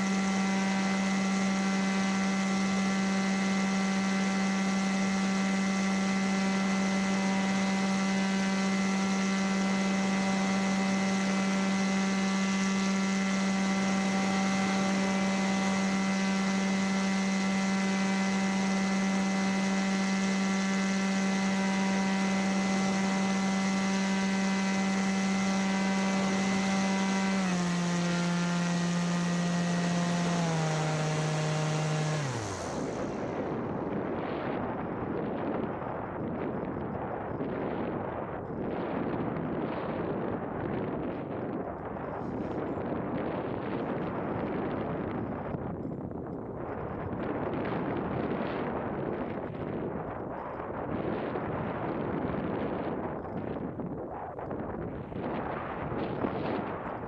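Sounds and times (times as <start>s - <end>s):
paramotor engine droning: 0.0s - 53.8s.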